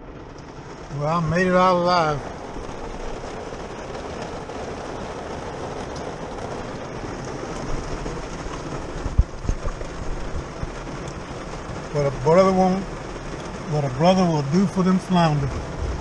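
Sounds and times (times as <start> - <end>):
rain on a vehicle roof: 0.0 - 16.0.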